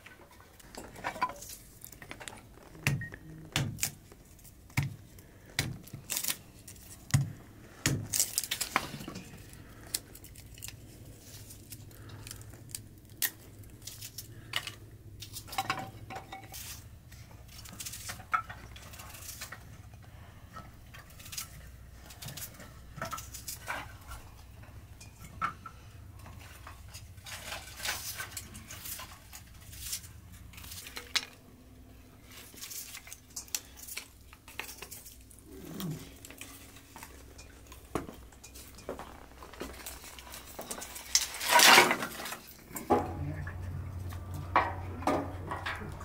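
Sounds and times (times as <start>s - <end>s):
firewood sticks clattering down: 0.0s - 31.5s, 32.1s - 46.0s.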